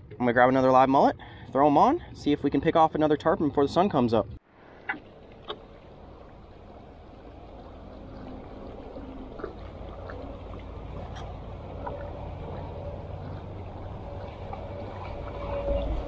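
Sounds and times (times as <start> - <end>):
water lapping along hull: 0.0 - 16.0.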